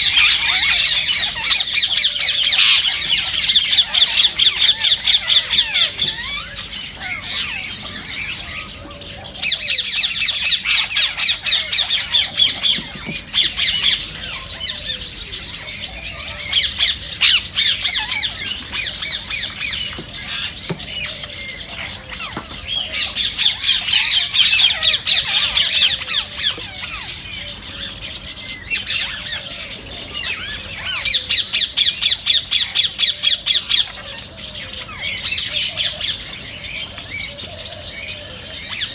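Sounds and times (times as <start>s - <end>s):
chattering bird calls: 0.0s - 38.9s
parakeets screeching: 0.0s - 38.9s.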